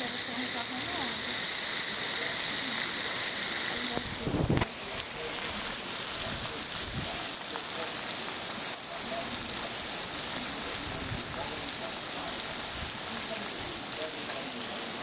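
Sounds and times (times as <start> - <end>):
heavy rain on wet street: 0.0 - 15.0.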